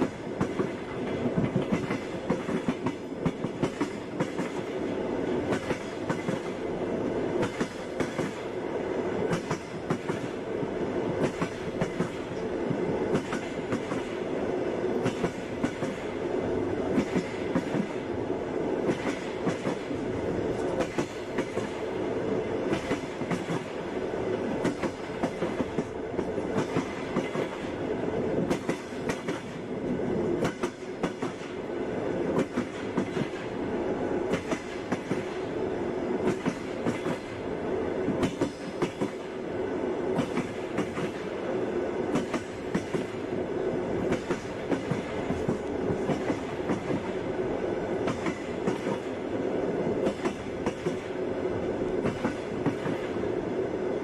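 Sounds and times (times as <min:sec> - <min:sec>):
train wheels clattering over rails: 0:00.0 - 0:06.7, 0:07.3 - 0:08.6, 0:09.2 - 0:16.2, 0:16.8 - 0:18.1, 0:18.8 - 0:22.0, 0:22.6 - 0:27.8, 0:28.4 - 0:31.6, 0:32.2 - 0:33.6, 0:34.2 - 0:35.5, 0:36.2 - 0:37.4, 0:38.0 - 0:39.4, 0:40.0 - 0:43.3, 0:44.0 - 0:47.2, 0:47.9 - 0:51.2, 0:51.9 - 0:53.2.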